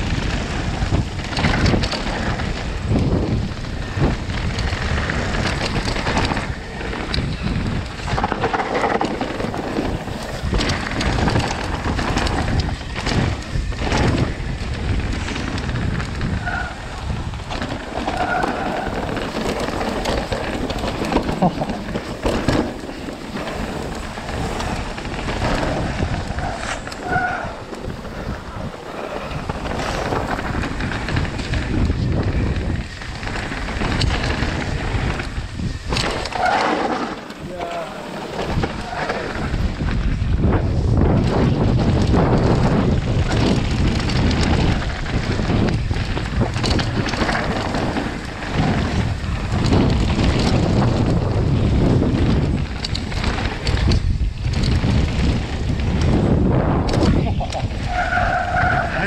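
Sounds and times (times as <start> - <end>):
bike tyres rattling over rocks: 0.0 - 59.0
wind buffeting microphone: 0.0 - 59.0.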